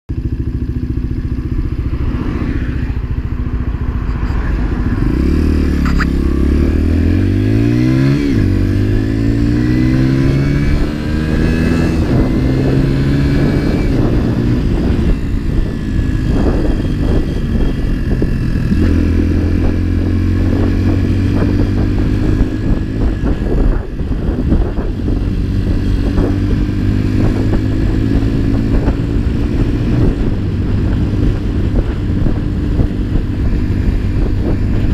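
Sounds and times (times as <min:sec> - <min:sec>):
motorcycle engine revving through gears: 0:00.1 - 0:34.9.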